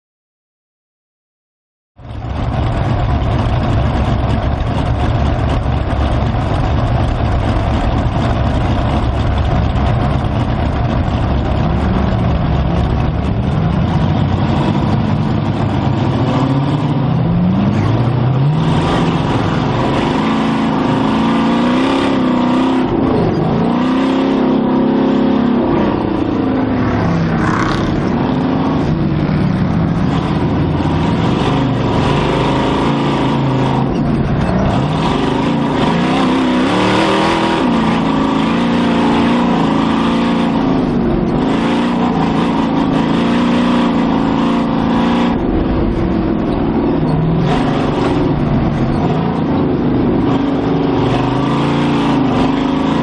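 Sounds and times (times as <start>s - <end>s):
race car engine revving: 2.0s - 53.0s.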